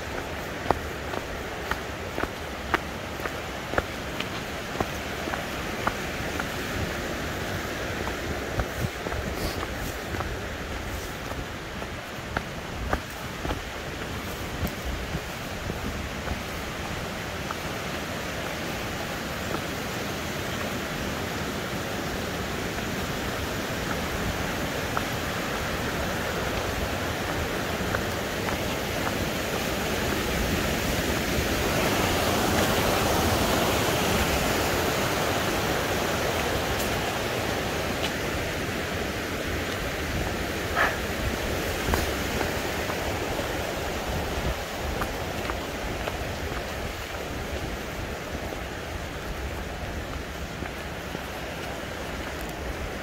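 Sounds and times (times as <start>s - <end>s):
rushing mountain stream: 0.0s - 53.0s.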